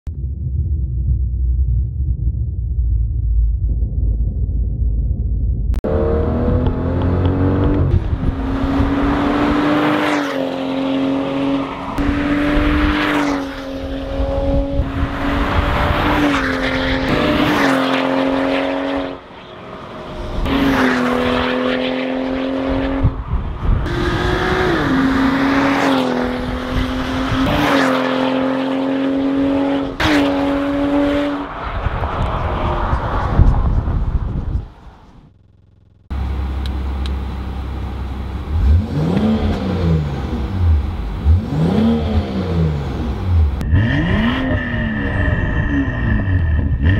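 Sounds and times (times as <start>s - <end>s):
car engine running hard: 5.8s - 32.3s, 35.5s - 46.9s.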